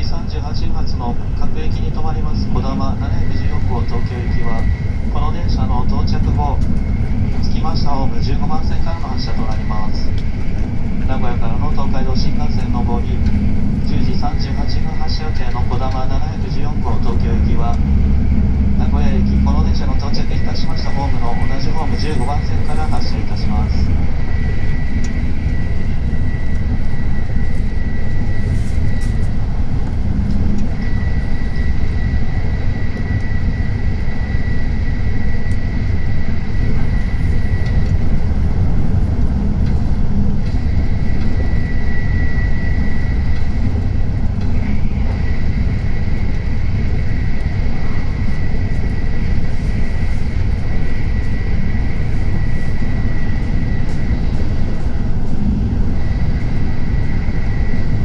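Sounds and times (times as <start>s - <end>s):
train running low rumble: 0.0s - 58.0s.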